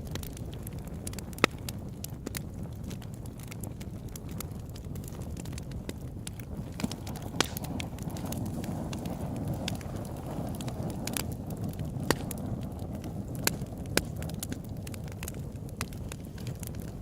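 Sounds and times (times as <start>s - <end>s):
burning wood crackling: 0.0s - 17.0s
campfire flames rumbling: 0.0s - 17.0s.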